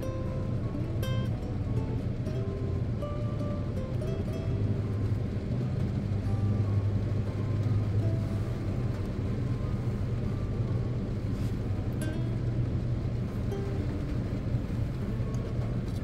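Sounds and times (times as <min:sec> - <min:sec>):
car engine humming: 0:00.0 - 0:16.0
rain on windshield: 0:00.0 - 0:16.0.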